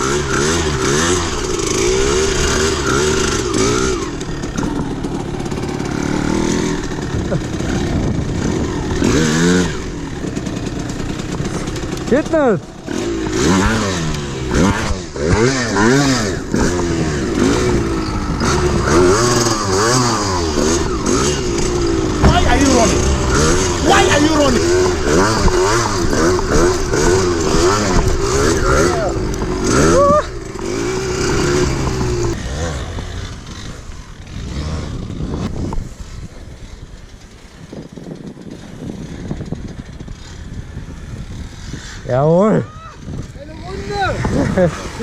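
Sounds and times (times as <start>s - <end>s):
two-stroke engine revving: 0.0s - 45.0s.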